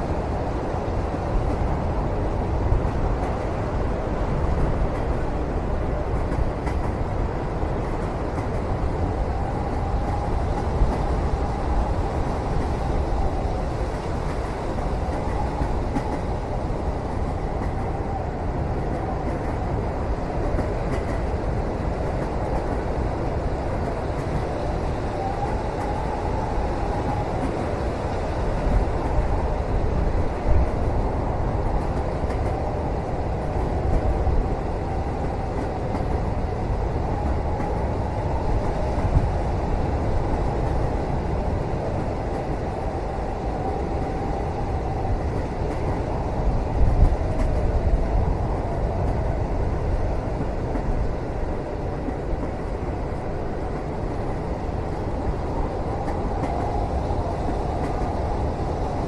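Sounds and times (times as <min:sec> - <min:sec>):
train rumble in cabin: 0:00.0 - 0:59.0.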